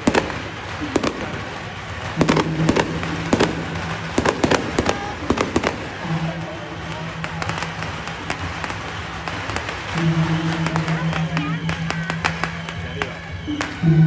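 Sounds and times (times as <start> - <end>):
firecrackers cracking: 0.0 - 14.0
steady low drone: 0.0 - 14.0.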